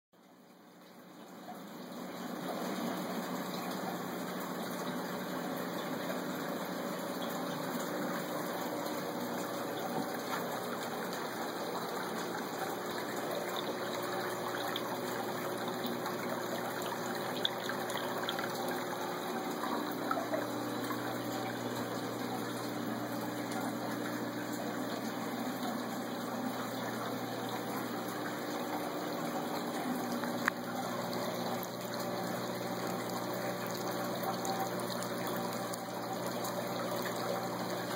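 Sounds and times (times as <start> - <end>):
low pump hum: 0.2 - 37.9
water splashing and trickling: 0.3 - 37.9.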